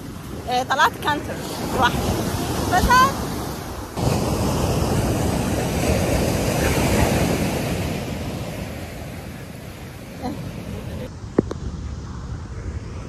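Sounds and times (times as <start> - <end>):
ocean surf breaking: 0.0 - 13.0
wind on microphone: 0.0 - 13.0.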